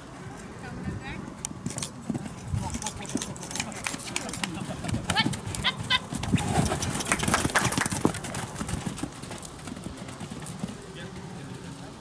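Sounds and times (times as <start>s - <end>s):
hoofbeats on sand: 1.6s - 12.0s.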